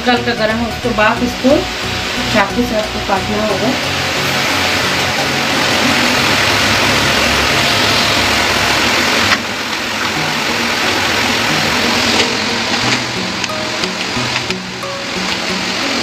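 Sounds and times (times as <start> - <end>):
loud rushing fan noise: 0.0 - 16.0
low hum: 0.8 - 16.0.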